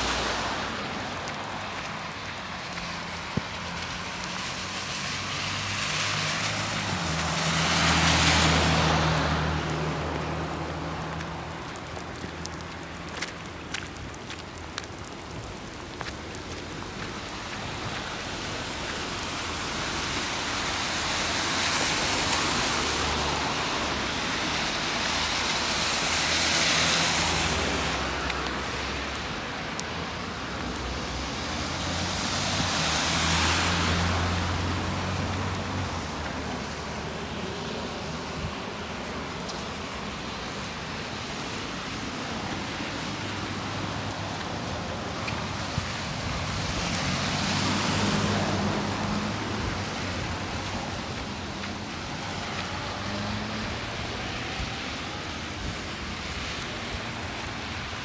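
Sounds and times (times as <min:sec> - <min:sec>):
cars passing on wet road: 0:00.0 - 0:58.0
rain on wet pavement: 0:00.0 - 0:58.0.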